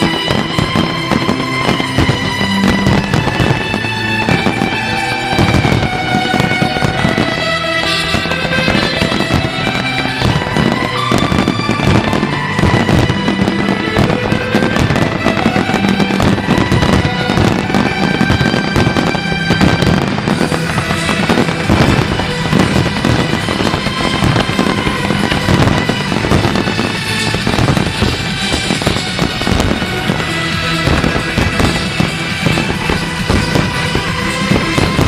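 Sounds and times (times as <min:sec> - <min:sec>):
fireworks bangs and crackling: 0:00.0 - 0:35.0
music with held notes: 0:00.0 - 0:35.0.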